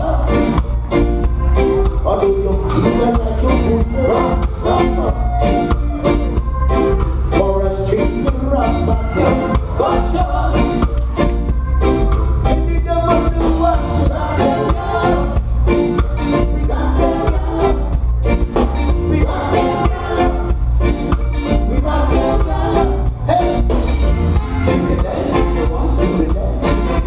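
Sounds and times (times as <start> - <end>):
male lead vocal: 0.0 - 0.7, 1.7 - 6.2, 7.2 - 11.1, 12.5 - 27.0
heavy bass line: 0.0 - 27.0
live reggae band playing: 0.0 - 27.0.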